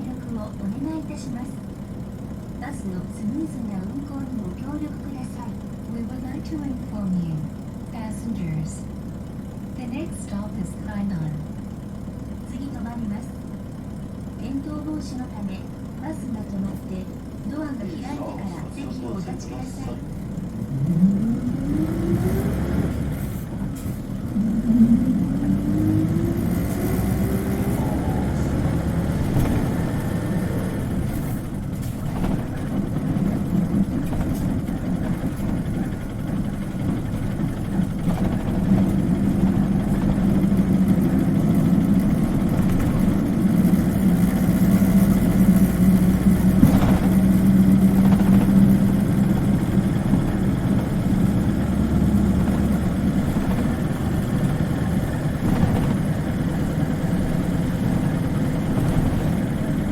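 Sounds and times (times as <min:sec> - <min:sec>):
bus diesel engine: 0:00.0 - 0:59.9
engine whine: 0:00.0 - 0:59.9.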